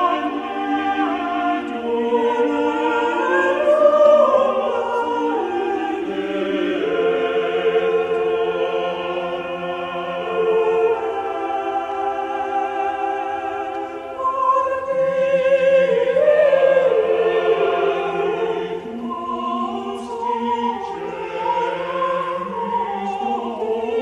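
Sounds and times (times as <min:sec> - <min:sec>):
choir singing long chords: 0:00.0 - 0:24.0.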